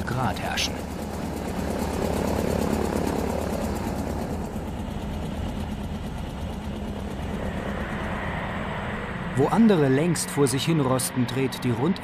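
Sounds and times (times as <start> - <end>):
radial aircraft engines burbling: 0.0 - 12.0.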